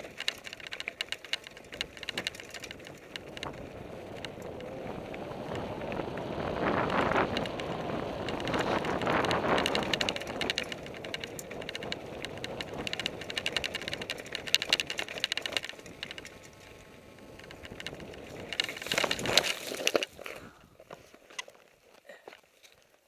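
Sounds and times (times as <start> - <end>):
bike chain and frame rattling: 0.0 - 22.9
bike tyres rolling over dirt: 0.0 - 23.0.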